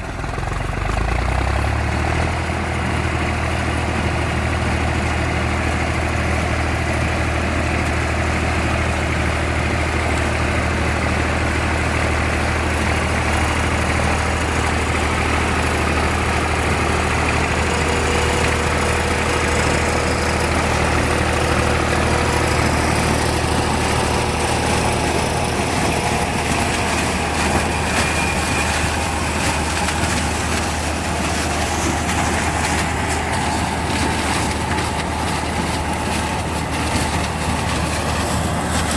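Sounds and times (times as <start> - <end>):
harvesting machinery rattling: 0.0 - 38.9
tractor diesel engine running: 0.0 - 38.9.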